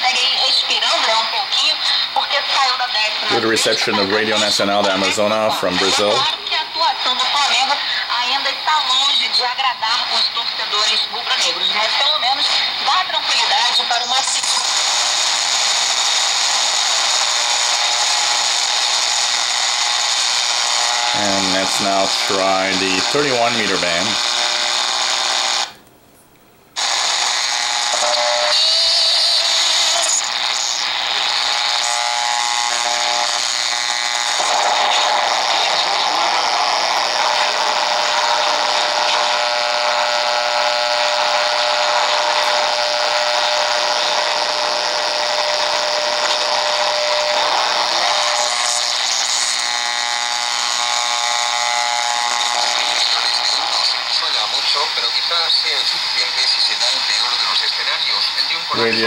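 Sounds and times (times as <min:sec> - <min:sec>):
radio static hiss: 0:00.0 - 0:25.9, 0:26.6 - 0:59.0
steady radio whistle: 0:10.1 - 0:25.7, 0:26.8 - 0:59.0.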